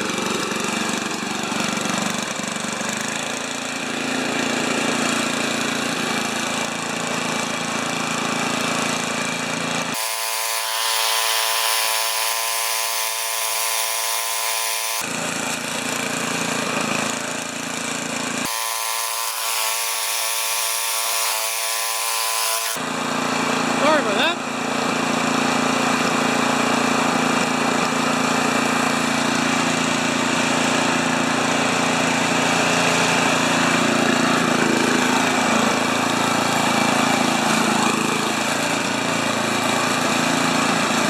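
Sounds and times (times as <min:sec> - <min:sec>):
snowblower engine running: 0:00.0 - 0:41.0.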